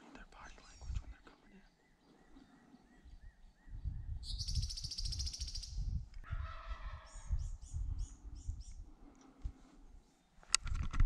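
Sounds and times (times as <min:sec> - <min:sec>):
birds calling: 0:00.0 - 0:09.4.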